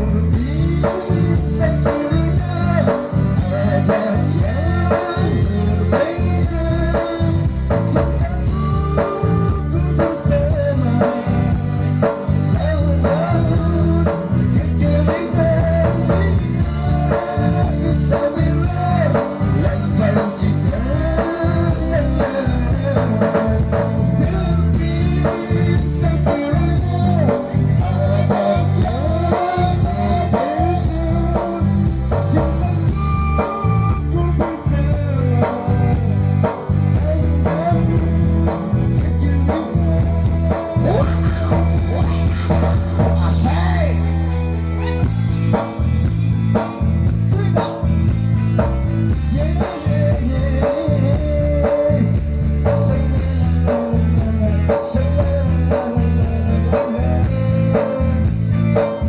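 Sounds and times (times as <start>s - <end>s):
person singing: 0.0s - 44.2s, 46.6s - 59.0s
driving bass beat: 0.0s - 59.0s
guitar: 0.0s - 59.0s
live band music: 0.0s - 59.0s.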